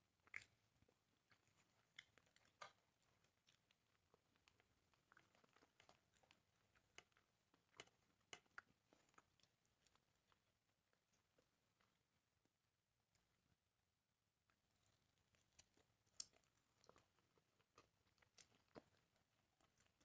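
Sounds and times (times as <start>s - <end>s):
soft chewing: 0.0s - 13.6s, 14.4s - 20.0s.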